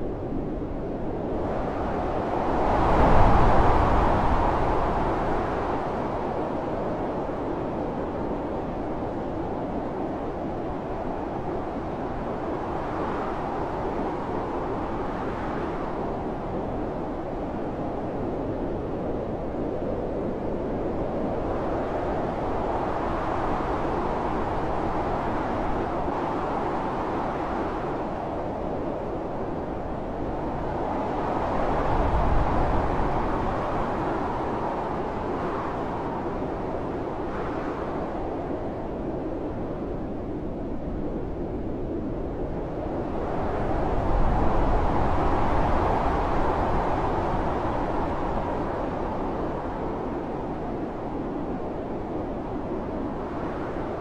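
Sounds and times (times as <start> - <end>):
blizzard wind blowing: 0.0 - 54.0.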